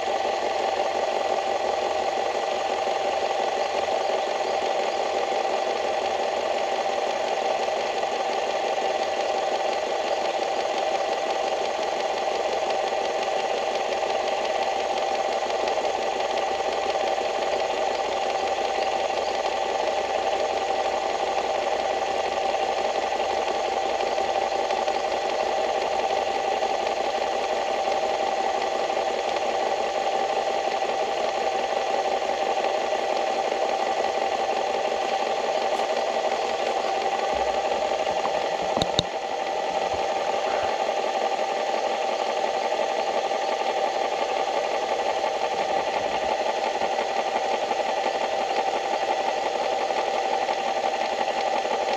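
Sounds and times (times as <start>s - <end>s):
small engine running: 0.0s - 51.9s.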